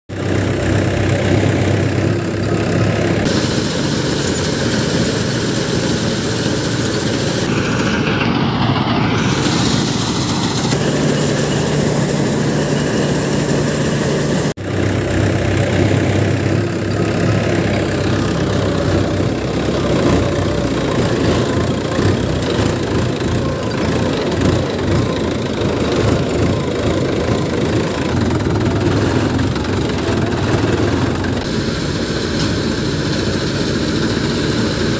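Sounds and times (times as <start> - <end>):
harvester diesel engine running: 0.1 - 34.9.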